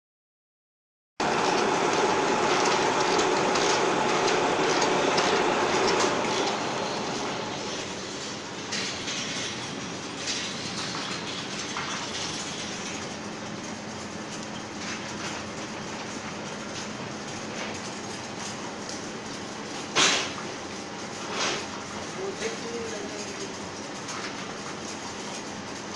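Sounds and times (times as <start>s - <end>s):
bottling machine clattering: 1.2s - 25.9s.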